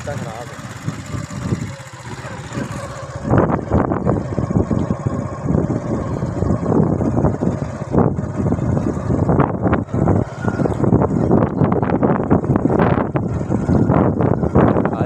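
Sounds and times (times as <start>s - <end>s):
small motorcycle running: 0.0s - 15.0s
wind buffeting microphone: 0.0s - 15.0s.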